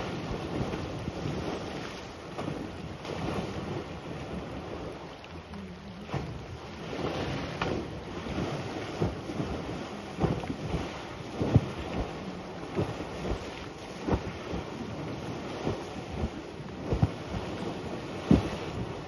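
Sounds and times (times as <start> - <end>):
elephant splashing in water: 0.0 - 19.0
wind on microphone: 0.0 - 19.0.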